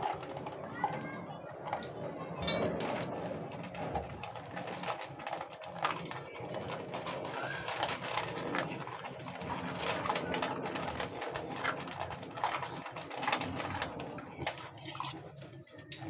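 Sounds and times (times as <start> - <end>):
dog chewing dry kibble: 0.0 - 16.0
kibble clicking in metal bowl: 0.0 - 16.0.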